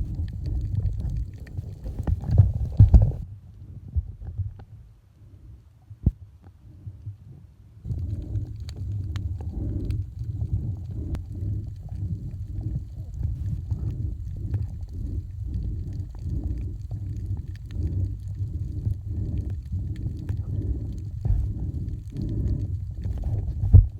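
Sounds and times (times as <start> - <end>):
muffled underwater rumble: 0.0 - 23.9.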